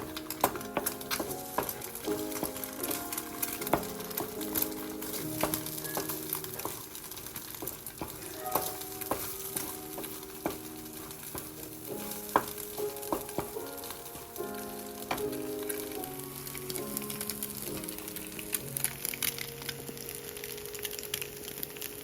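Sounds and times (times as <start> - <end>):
sizzling crackling hiss: 0.0 - 22.0.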